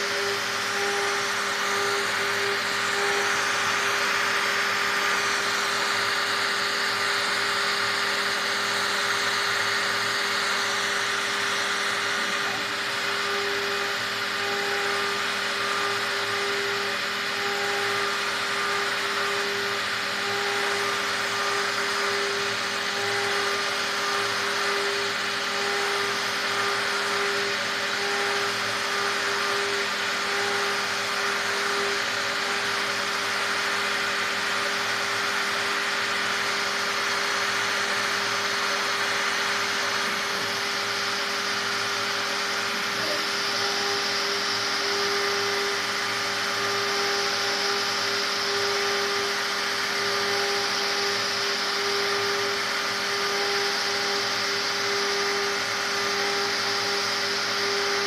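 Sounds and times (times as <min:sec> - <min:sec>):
pulsing tone: 0:00.0 - 0:33.2, 0:40.2 - 0:58.0
hiss of bit cutting wood: 0:00.0 - 0:58.0
machine spindle whine: 0:00.0 - 0:58.0.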